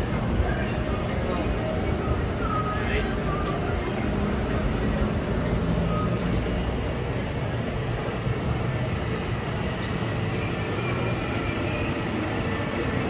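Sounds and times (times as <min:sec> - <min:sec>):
street noise: 0:00.0 - 0:13.0
vehicle engine rumbling: 0:00.0 - 0:13.0.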